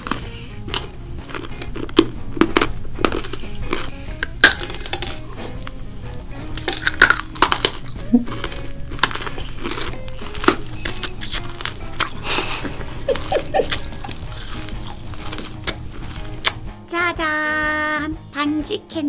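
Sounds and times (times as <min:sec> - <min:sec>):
candy crunching while chewed: 0:00.0 - 0:16.7.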